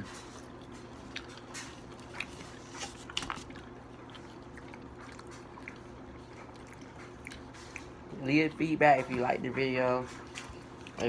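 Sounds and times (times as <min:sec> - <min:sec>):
people chewing and biting: 0:00.0 - 0:11.0.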